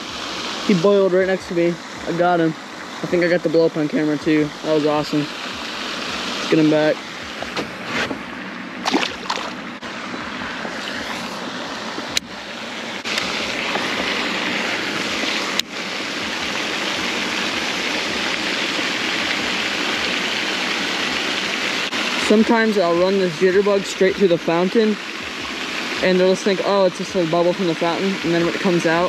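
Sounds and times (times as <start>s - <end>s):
splashing water: 0.0s - 29.0s.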